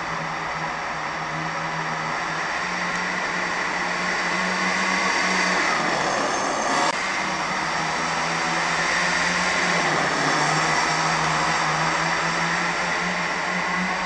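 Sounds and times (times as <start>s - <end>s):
small engine buzzing: 1.3s - 14.0s.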